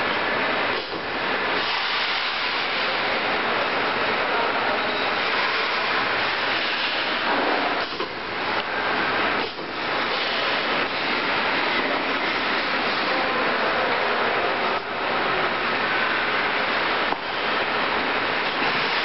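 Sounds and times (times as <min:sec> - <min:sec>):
workshop machinery hiss: 0:00.3 - 0:19.0.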